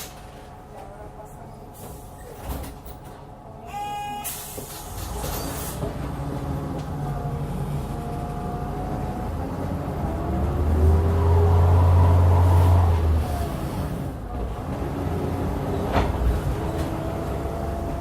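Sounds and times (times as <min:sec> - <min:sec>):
bus engine rumbling: 0:00.0 - 0:18.0.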